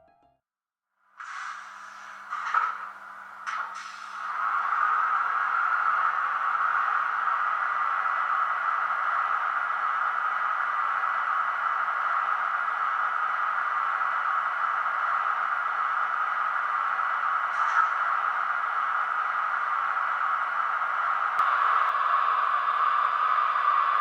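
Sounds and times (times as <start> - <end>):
model locomotive running sound: 1.2 - 24.0.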